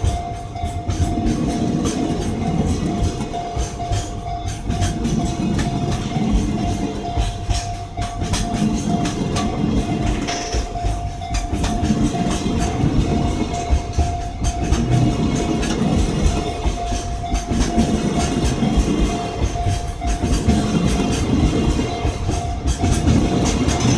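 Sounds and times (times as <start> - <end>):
steady high-pitched tone: 0.0 - 23.9
train wagons clattering over rails: 0.0 - 23.9.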